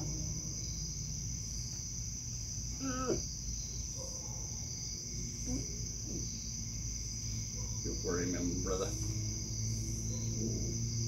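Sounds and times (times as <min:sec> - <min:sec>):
insects trilling: 0:00.0 - 0:11.0
low background hum: 0:00.0 - 0:11.0.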